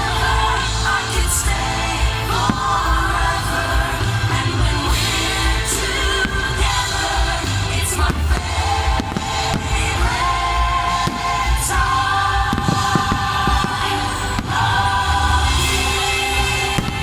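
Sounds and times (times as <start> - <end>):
music with singing over loudspeakers: 0.0 - 17.0
firework bursts banging: 1.5 - 17.0.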